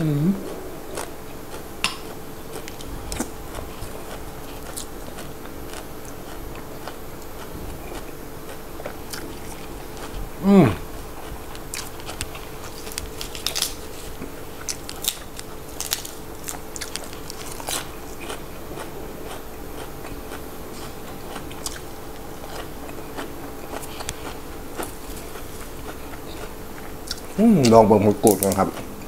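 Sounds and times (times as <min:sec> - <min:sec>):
chewing crisp vegetables: 0:00.0 - 0:29.0.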